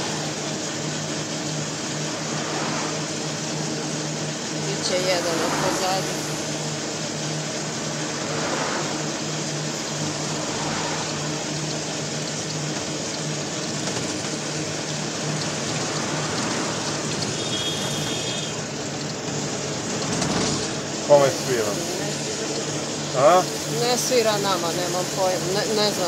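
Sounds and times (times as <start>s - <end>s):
electric motor hum: 0.0s - 26.0s
tyres hissing through wet slush: 0.0s - 26.0s.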